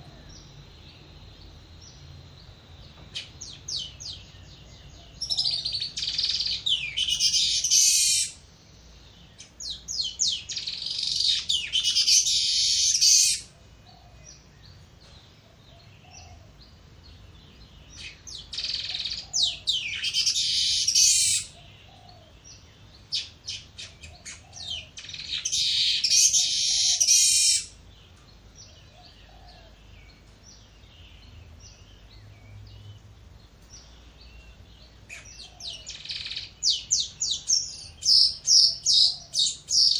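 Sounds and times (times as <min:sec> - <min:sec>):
weaver birds buzzy chatter: 0:00.0 - 0:39.9.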